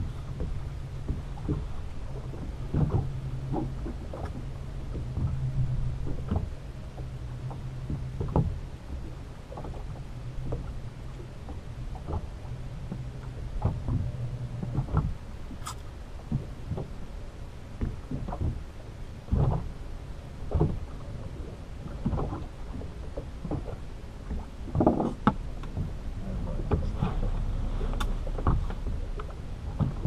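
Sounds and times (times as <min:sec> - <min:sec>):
knocks and bumps on boat: 0:00.0 - 0:30.0
low steady hum: 0:00.0 - 0:30.0.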